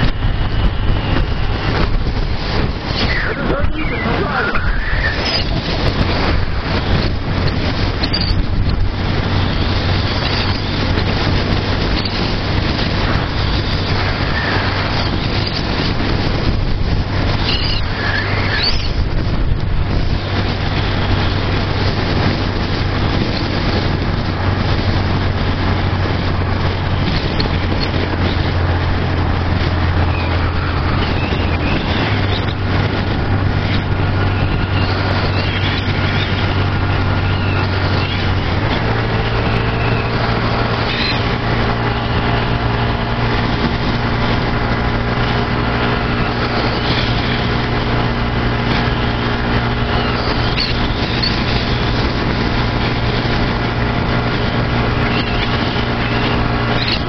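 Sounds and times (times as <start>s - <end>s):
motorcycle engine running: 0.0s - 4.1s, 4.7s - 57.0s
wind rushing over microphone: 0.0s - 57.0s.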